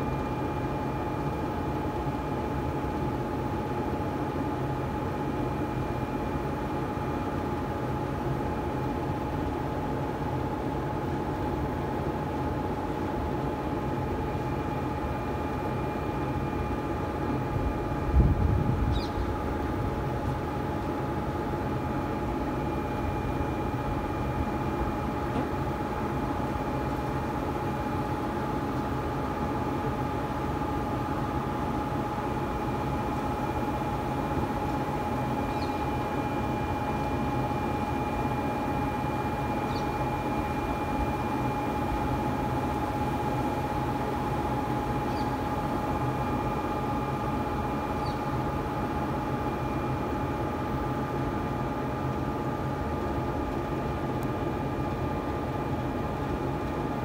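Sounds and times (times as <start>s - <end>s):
electrical hum and whine: 0.0s - 57.0s.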